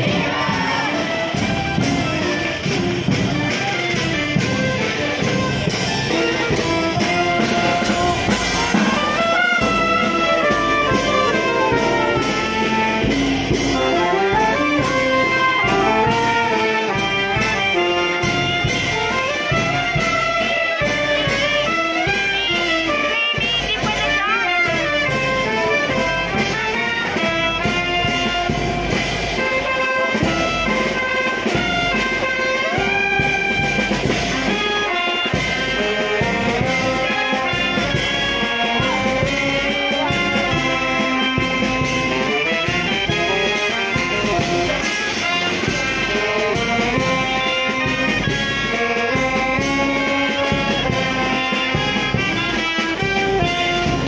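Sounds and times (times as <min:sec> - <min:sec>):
marching band brass and reeds: 0:00.0 - 0:54.0
steady drum beat: 0:00.0 - 0:54.0.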